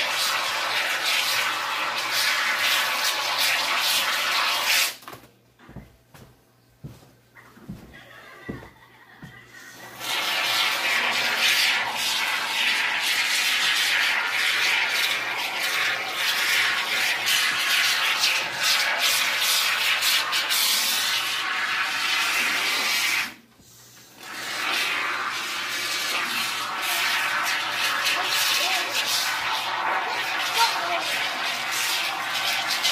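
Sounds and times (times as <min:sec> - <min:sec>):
aerosol foam can hissing: 0:00.0 - 0:05.0, 0:09.6 - 0:32.9.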